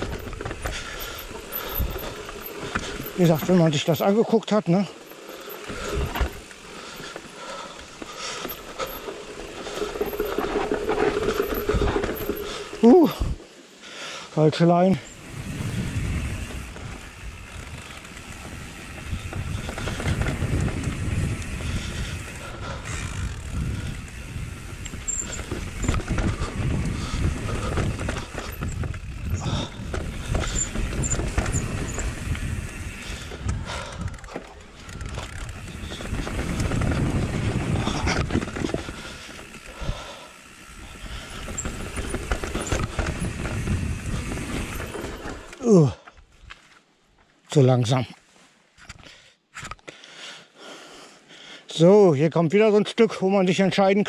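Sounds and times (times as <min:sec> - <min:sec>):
bike tyres rumbling over dirt: 0:00.0 - 0:13.6, 0:14.9 - 0:46.5.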